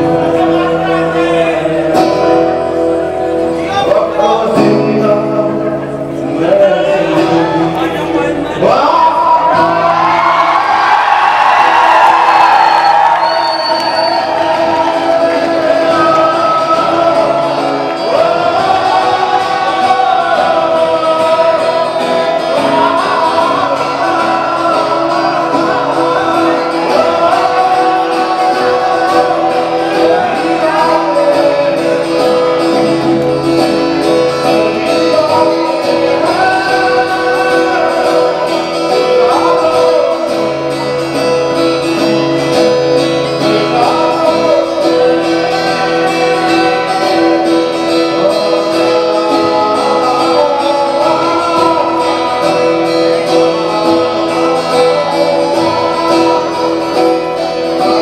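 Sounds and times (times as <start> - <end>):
man singing: 0.0 - 11.0, 13.6 - 58.0
acoustic guitar: 0.0 - 58.0.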